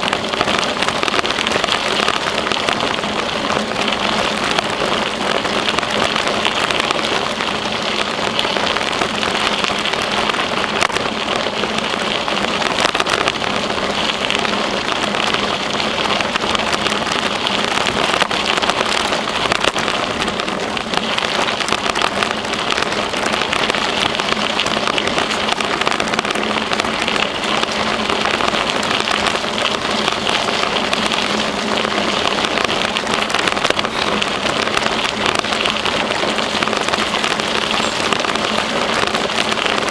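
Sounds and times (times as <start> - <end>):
bicycle tyres on path: 0.0 - 39.9.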